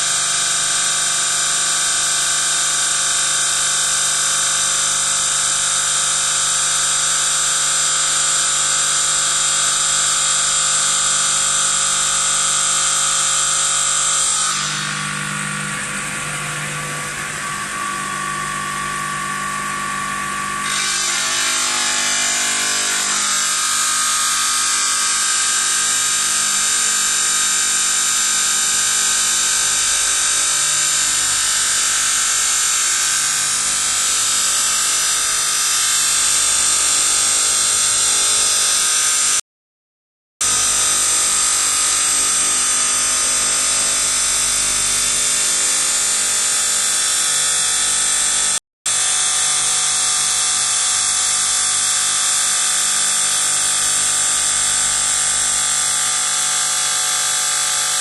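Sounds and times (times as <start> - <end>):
saw blade cutting stone: 7.1 - 39.4, 40.4 - 58.0.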